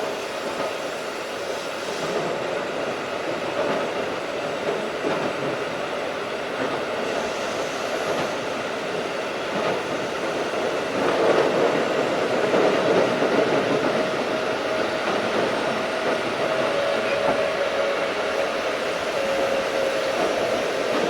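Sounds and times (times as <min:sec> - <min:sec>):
electric train rumbling on rails: 0:00.0 - 0:21.0.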